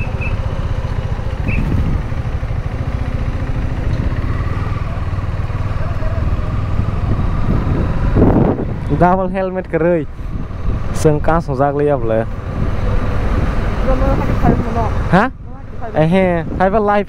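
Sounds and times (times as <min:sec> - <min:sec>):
motorcycle engine running at low revs: 0:00.0 - 0:16.9.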